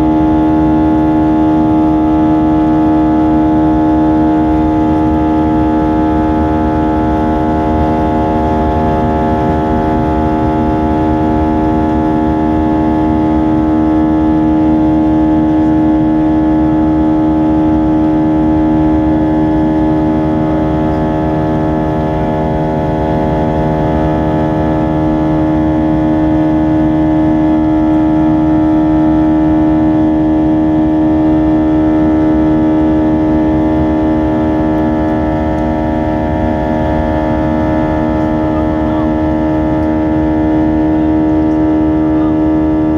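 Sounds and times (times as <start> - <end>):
jet engine cabin drone: 0.0 - 42.9.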